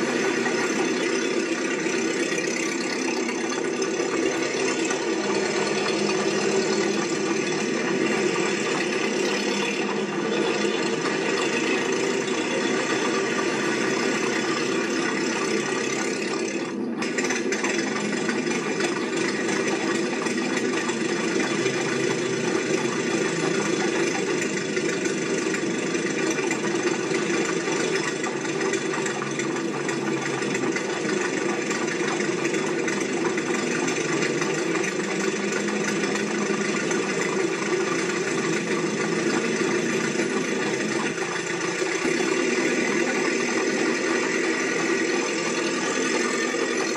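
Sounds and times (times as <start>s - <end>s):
machine running with rattle: 0.0s - 46.9s.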